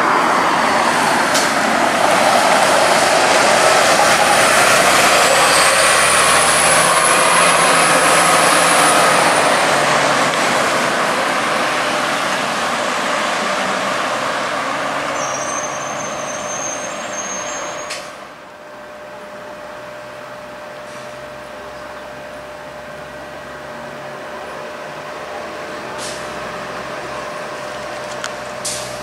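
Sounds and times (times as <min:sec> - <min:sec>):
bus engine and road noise: 0:00.0 - 0:29.0
high whine: 0:00.0 - 0:29.0.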